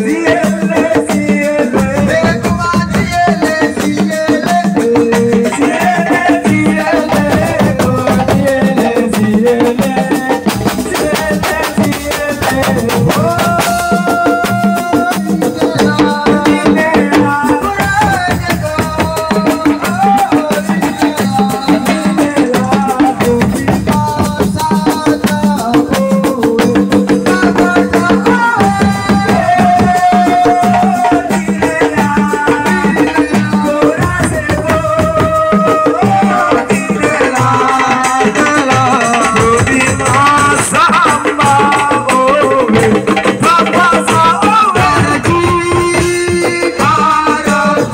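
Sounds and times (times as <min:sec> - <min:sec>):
fast dense percussion: 0:00.0 - 0:47.9.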